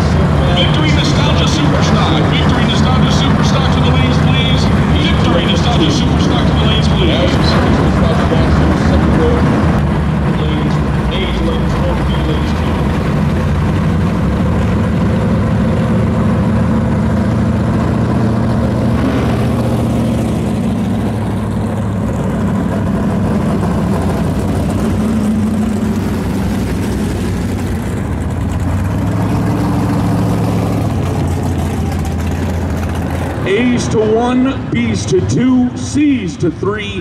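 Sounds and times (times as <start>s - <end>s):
car engines idling: 0.0s - 37.0s.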